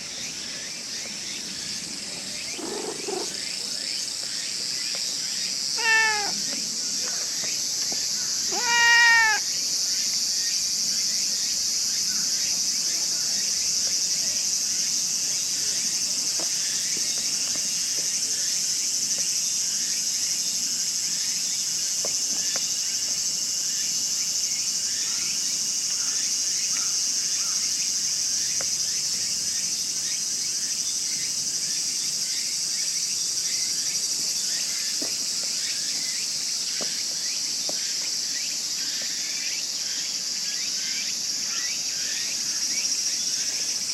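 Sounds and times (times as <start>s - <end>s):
faint insect chirps: 0.0s - 43.9s
insect chorus shrilling: 0.0s - 43.9s.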